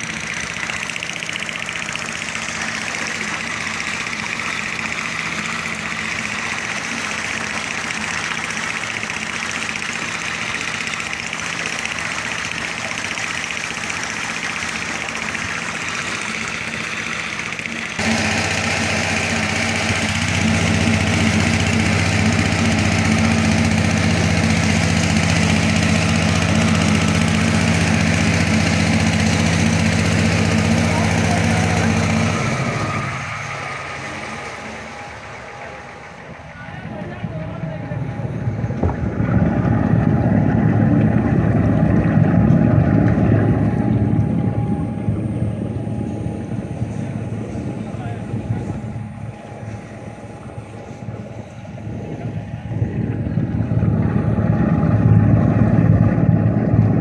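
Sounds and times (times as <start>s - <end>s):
machinery low hum: 0.0s - 57.0s.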